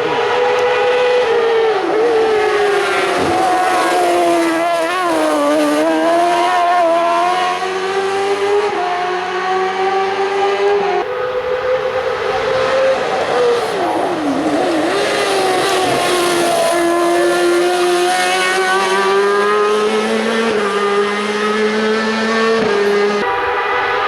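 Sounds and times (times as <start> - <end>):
race car engine at high revs: 0.0 - 24.0.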